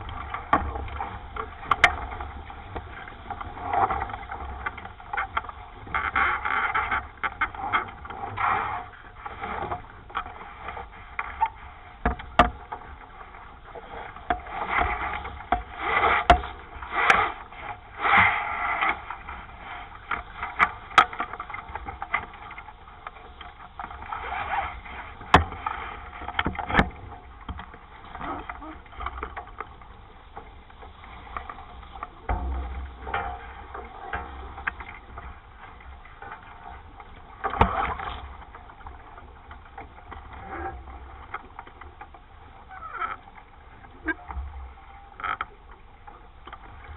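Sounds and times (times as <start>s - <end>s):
water splashing along boat hull: 0.0s - 46.9s.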